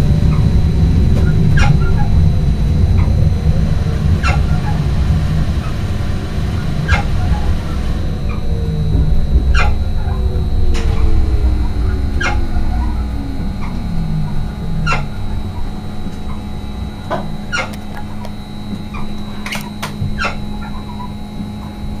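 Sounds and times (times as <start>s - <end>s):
running rumble: 0.0s - 22.0s
steady electrical hum: 0.0s - 22.0s
train traction drive whine: 0.0s - 22.0s.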